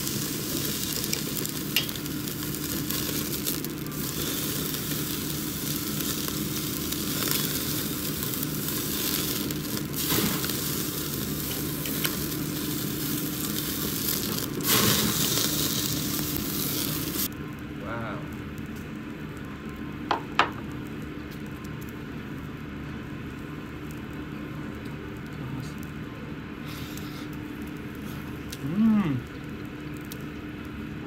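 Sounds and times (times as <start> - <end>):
crackles: 0.0 - 31.0
fat dripping into flame: 0.0 - 31.0
meat sizzling on a grill: 0.0 - 31.0.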